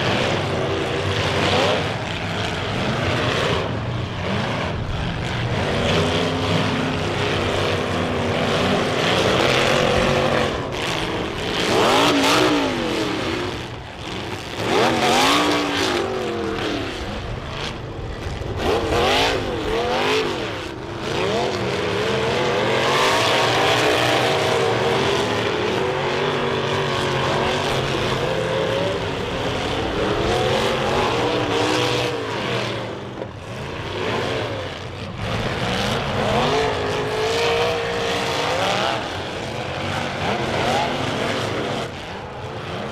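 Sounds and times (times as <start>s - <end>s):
car engines revving hard: 0.0s - 42.9s.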